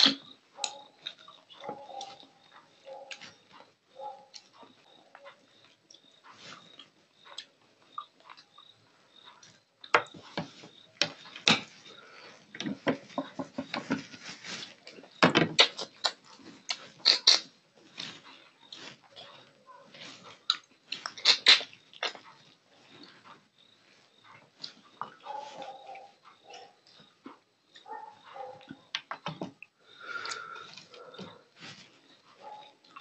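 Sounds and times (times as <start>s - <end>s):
man chewing and smacking: 0.0s - 13.9s, 14.6s - 33.0s.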